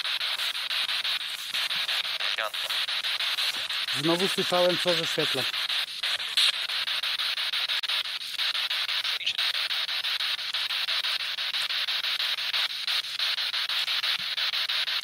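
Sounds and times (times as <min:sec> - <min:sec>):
pulsing radio static: 0:00.0 - 0:15.0.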